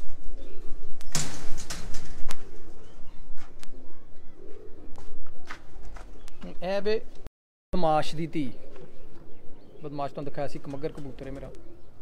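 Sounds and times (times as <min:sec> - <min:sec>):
pigeons cooing: 0:00.0 - 0:06.7, 0:08.0 - 0:12.0.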